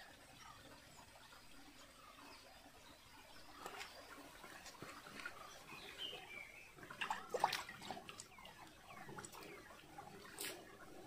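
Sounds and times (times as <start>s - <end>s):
water gurgling and splashing: 0.0s - 11.0s.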